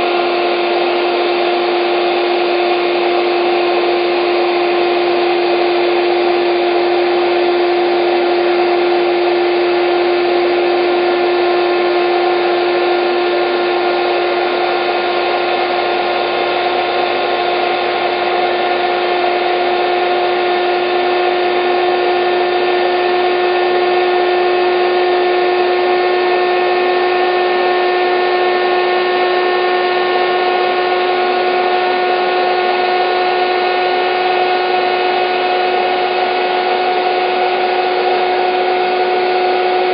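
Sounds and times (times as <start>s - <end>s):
electric air pump running: 0.0s - 39.9s.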